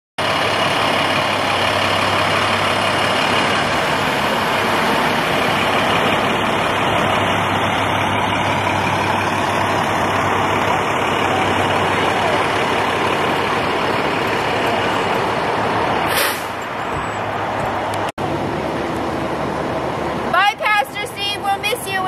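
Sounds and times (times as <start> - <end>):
fire engine diesel passing: 0.2 - 22.0.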